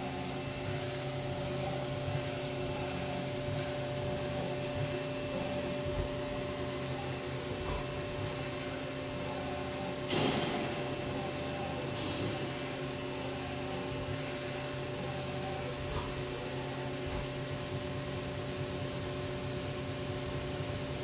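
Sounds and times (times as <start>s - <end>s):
machine humming and whirring: 0.0s - 21.0s.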